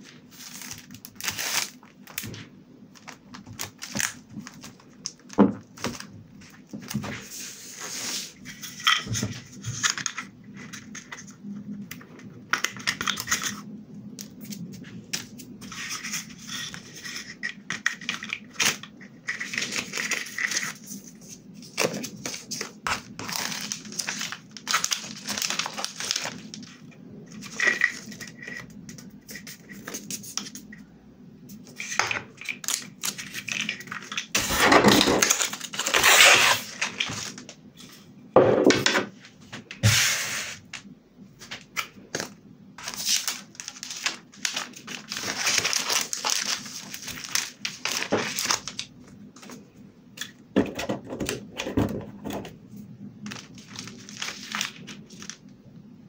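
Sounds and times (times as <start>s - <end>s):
plastic film and foil crinkling: 0.0s - 30.7s, 31.5s - 37.5s, 41.4s - 50.3s, 53.2s - 55.6s.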